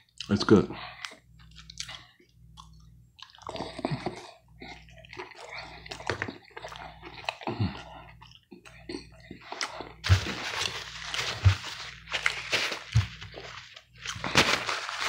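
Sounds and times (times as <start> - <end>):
low steady hum: 0.0 - 15.0
wet chewing of pizza crust: 0.0 - 15.0.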